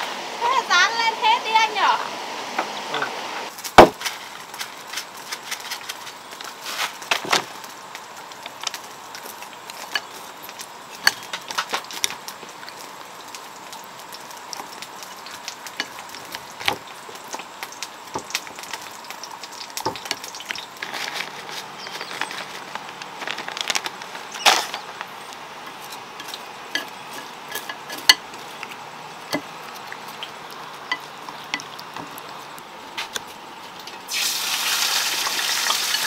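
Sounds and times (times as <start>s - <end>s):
food sizzling in a pan: 0.0s - 23.2s, 24.1s - 36.0s.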